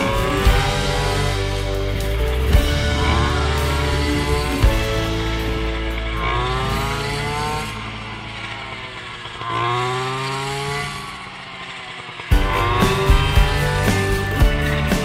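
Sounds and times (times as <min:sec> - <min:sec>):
loud sound: 0:00.0 - 0:14.9
small engine revving: 0:00.0 - 0:15.0.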